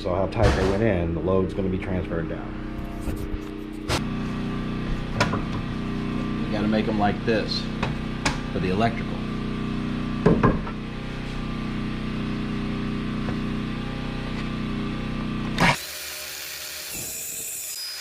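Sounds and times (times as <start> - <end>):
motor hum: 0.0 - 18.0.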